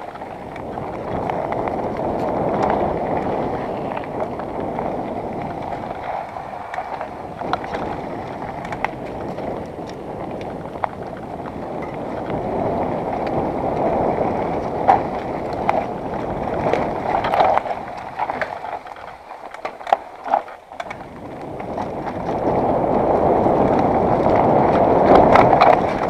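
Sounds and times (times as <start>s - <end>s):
bike knocking and rattling: 0.0s - 26.0s
bike tyres rumbling: 0.0s - 26.0s
wind on microphone: 0.0s - 26.0s.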